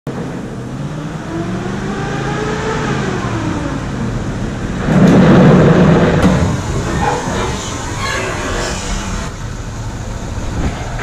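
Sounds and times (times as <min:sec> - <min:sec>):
truck engine accelerating: 0:00.1 - 0:11.0.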